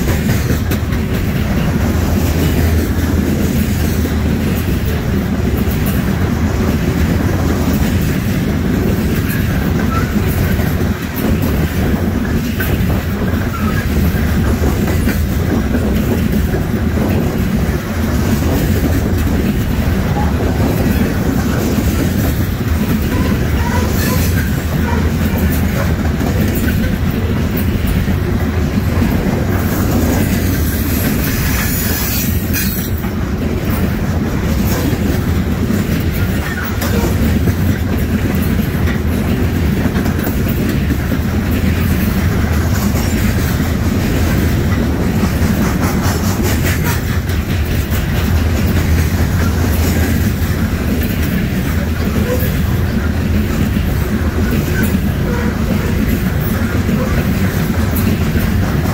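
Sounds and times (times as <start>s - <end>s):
clickety-clack over rail joints: 0.0s - 58.9s
freight train wheels rumbling: 0.0s - 58.9s.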